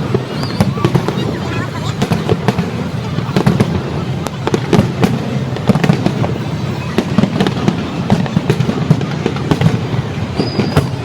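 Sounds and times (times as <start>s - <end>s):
continuous rumble: 0.0s - 11.0s
fireworks bangs and pops: 0.0s - 11.0s.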